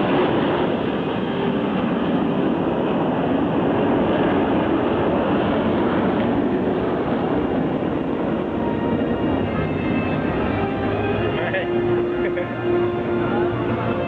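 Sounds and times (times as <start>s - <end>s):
jet fighters flying overhead: 0.0s - 14.0s.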